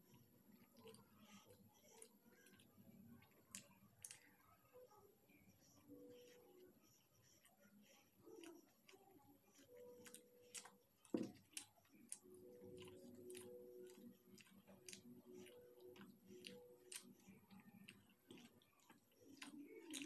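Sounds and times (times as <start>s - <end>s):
faint low steady hum: 0.0s - 20.0s
close chewing mouth clicks: 0.1s - 4.4s, 5.6s - 20.0s.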